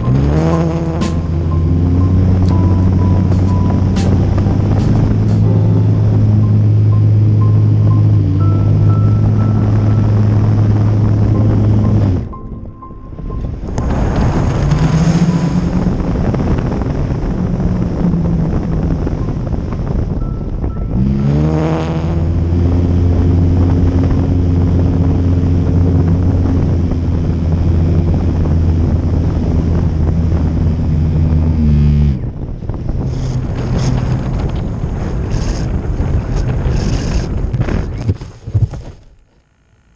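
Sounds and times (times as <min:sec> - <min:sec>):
electric motor and propeller whine: 0:00.0 - 0:12.4, 0:13.4 - 0:39.9
wind rushing over microphone: 0:00.0 - 0:38.9.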